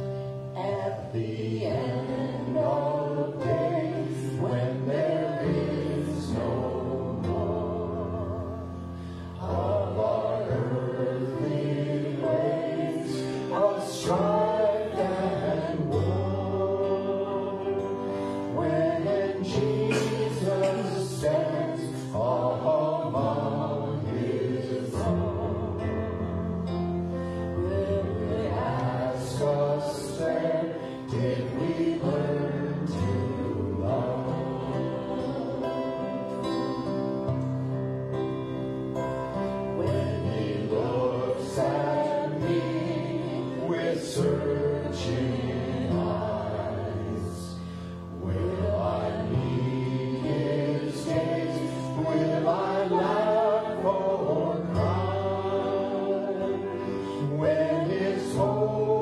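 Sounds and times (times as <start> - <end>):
keyboard: 0.0 - 59.0
strummed acoustic guitar: 0.0 - 59.0
man and woman singing: 0.4 - 8.7, 9.3 - 26.4, 27.4 - 37.4, 39.6 - 59.0.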